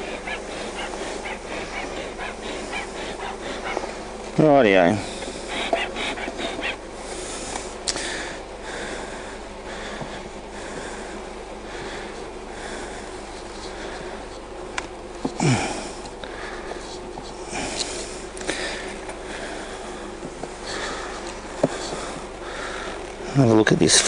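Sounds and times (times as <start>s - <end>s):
honey bees humming: 0.0s - 24.0s.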